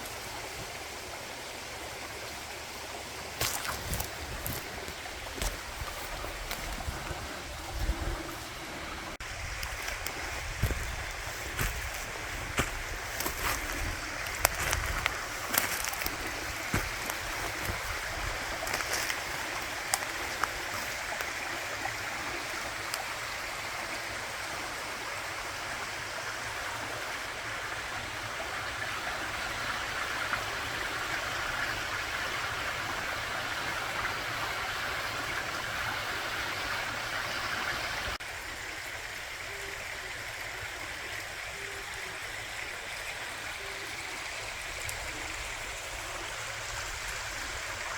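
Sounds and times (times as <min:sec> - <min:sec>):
running water rushing: 0:00.0 - 0:47.9.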